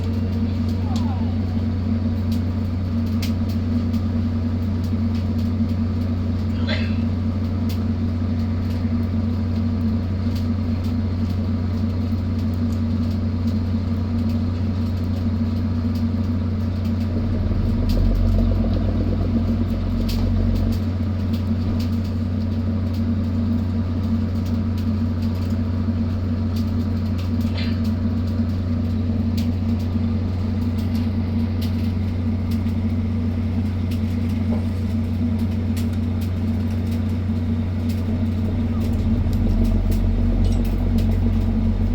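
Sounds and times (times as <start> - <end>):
boat engine droning: 0.0 - 41.9.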